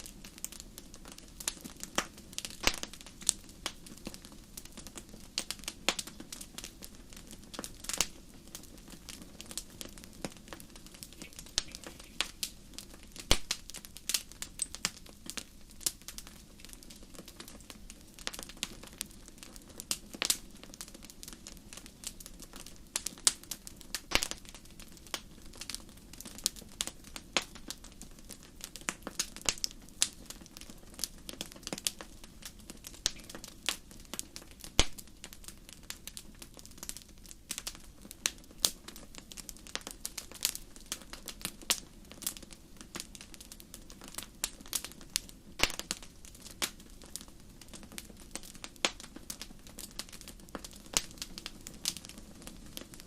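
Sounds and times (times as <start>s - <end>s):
low rush of flames: 0.0s - 53.0s
wood fire pops and snaps: 0.0s - 53.0s.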